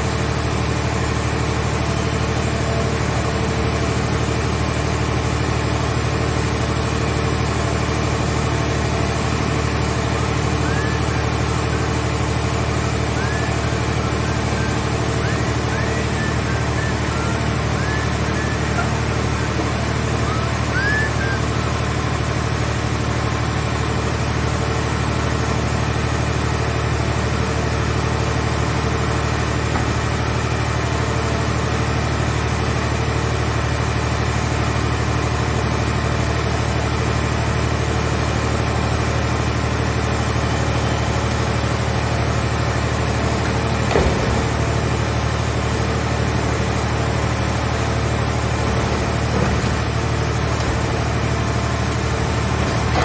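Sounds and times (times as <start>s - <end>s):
baler engine running: 0.0s - 53.0s.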